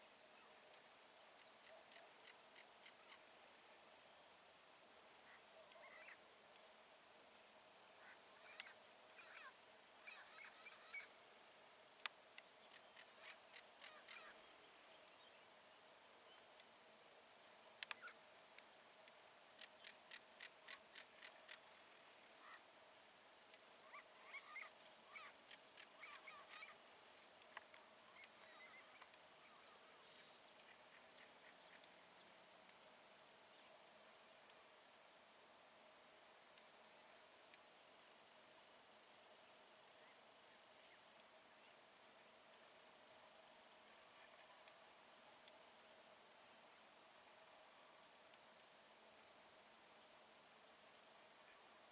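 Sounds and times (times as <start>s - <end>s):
high insect drone: 0.0s - 51.9s.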